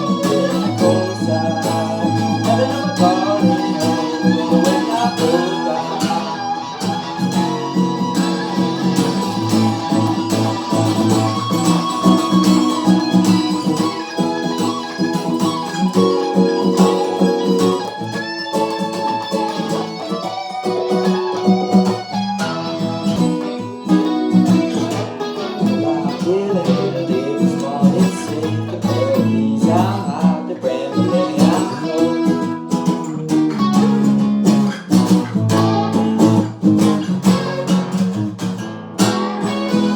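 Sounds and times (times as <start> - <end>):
guitar plucking and strumming: 0.0 - 39.9.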